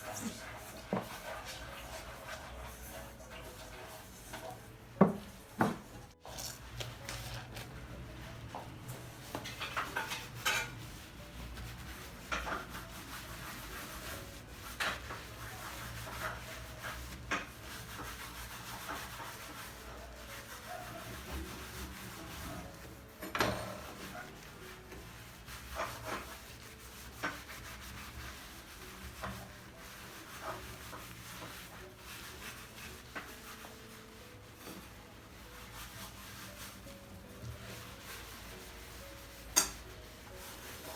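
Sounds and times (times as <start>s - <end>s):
household rubbing and scraping: 0.0s - 40.9s.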